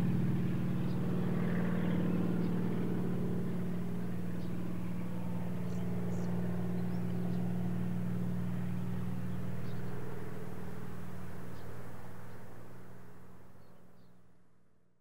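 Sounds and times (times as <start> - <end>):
helicopter engine drone: 0.0 - 13.9.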